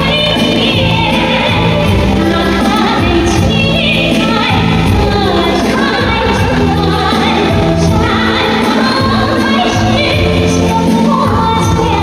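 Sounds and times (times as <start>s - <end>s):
music with singing: 0.0s - 12.0s.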